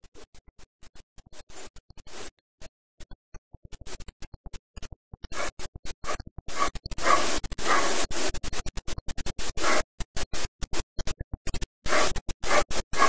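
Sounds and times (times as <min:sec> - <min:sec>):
fingers scratching a tin can: 0:00.9 - 0:02.4, 0:03.7 - 0:13.0.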